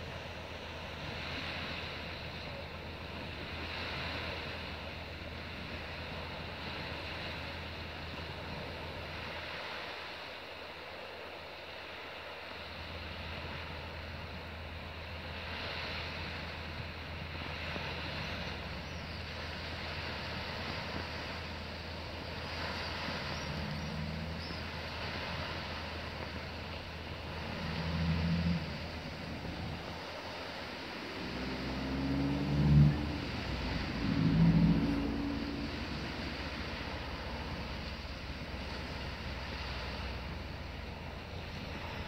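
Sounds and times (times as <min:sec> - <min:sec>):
steady low rumble: 0:00.0 - 0:09.4, 0:12.5 - 0:42.0
sea surf washing on shore: 0:00.0 - 0:42.0.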